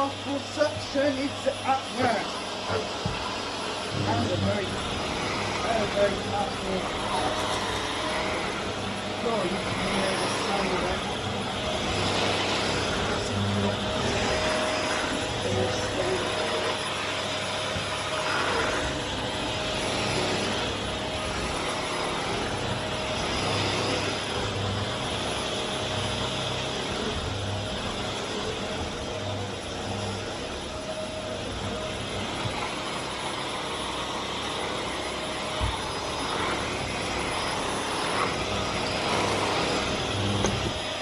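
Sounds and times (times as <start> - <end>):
vacuum cleaner running: 0.0 - 41.0.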